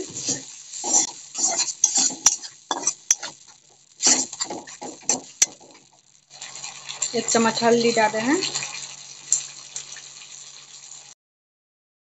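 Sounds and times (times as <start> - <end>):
metal spatula scraping a pan: 0.0 - 10.8
paste frying in oil: 0.0 - 11.2.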